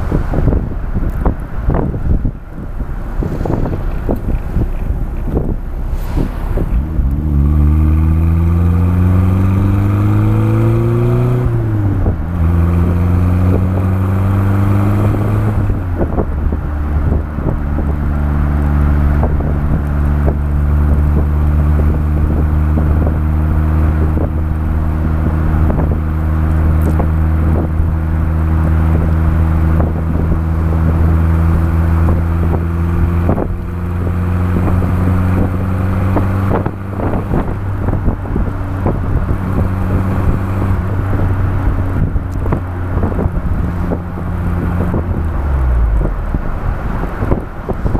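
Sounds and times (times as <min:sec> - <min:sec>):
car exhaust accelerating: 0:00.0 - 0:47.9
wind buffeting microphone: 0:00.0 - 0:47.9.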